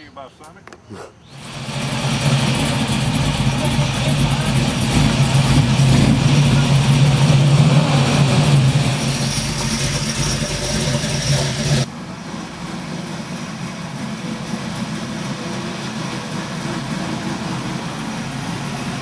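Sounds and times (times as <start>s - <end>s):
outdoor background noise: 0.0s - 19.0s
vehicle engine idling: 1.3s - 19.0s.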